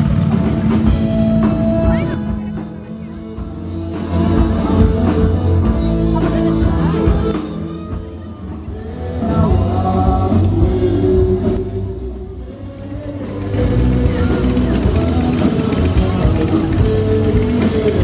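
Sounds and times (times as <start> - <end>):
guitar: 0.0 - 18.0
person singing: 0.0 - 18.0
rock band playing live: 0.0 - 18.0.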